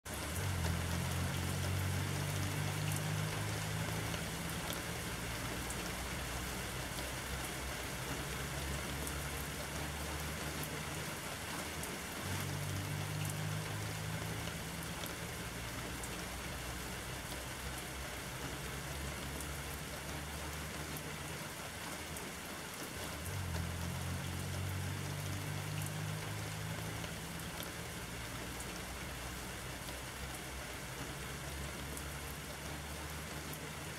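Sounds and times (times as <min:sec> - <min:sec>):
raindrops ticking: 0:00.1 - 0:33.9
steady rain hissing: 0:00.1 - 0:33.9.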